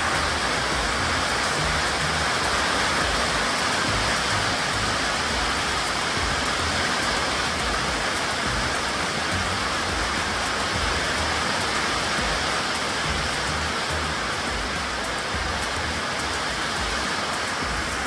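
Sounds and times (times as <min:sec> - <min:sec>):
rain on a metal roof: 0:00.0 - 0:18.0.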